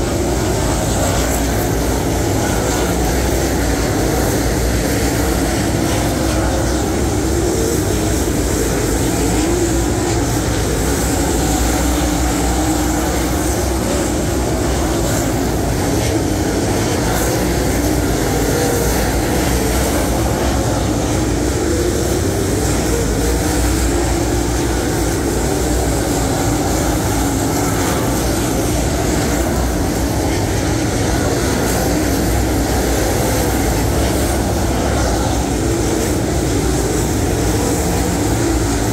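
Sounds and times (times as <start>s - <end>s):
race car engines droning: 0.0s - 38.9s.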